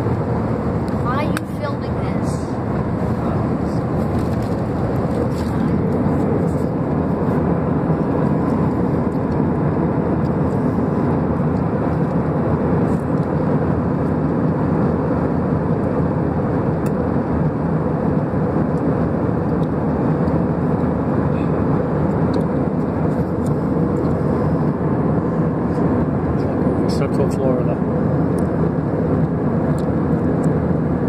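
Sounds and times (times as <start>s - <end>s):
rushing airflow: 0.0s - 27.0s
jet engines roaring in cabin: 0.0s - 31.0s.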